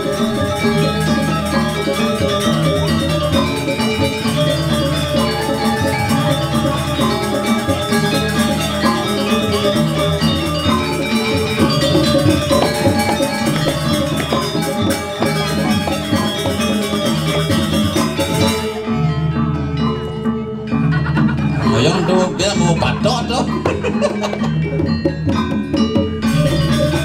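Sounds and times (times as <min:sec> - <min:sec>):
drumming: 0:00.0 - 0:18.8, 0:21.0 - 0:27.0
ringing bronze metallophones: 0:00.0 - 0:27.0.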